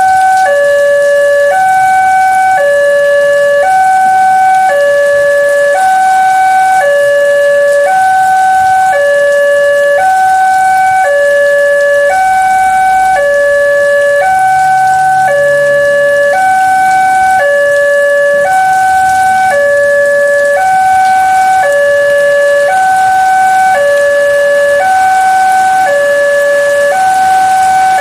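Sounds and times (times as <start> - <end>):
level crossing two-tone alarm: 0.0 - 28.0.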